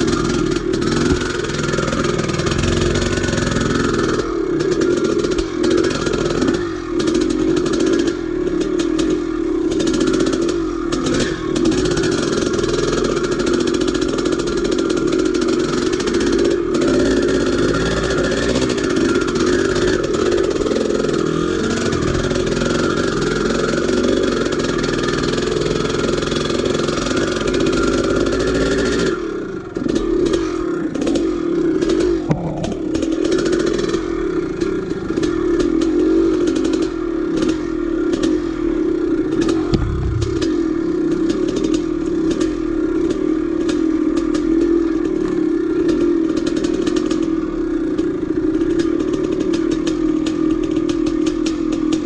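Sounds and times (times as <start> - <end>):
two-stroke motorcycle engine: 0.0 - 52.0.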